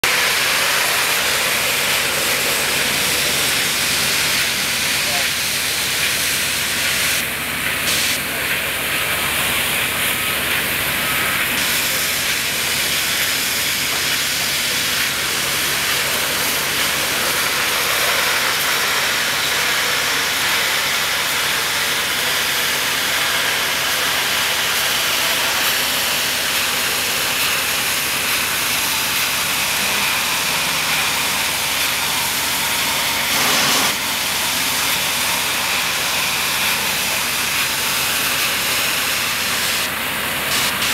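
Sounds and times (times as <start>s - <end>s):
high-pressure water jet hissing: 0.0s - 40.9s.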